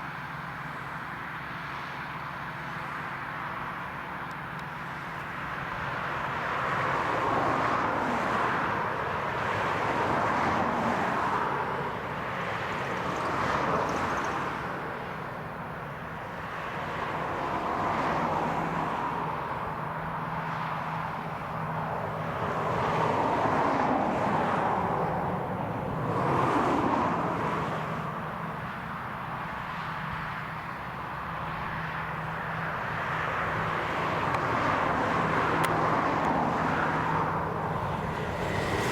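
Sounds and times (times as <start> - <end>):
tractor engine drone: 0.0 - 38.9.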